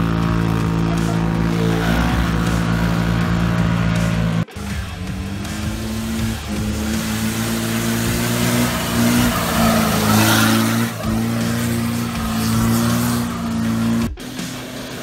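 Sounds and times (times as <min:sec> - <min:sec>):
off-road vehicle engine revving: 0:00.0 - 0:15.0
tyres on dirt trail: 0:00.0 - 0:15.0.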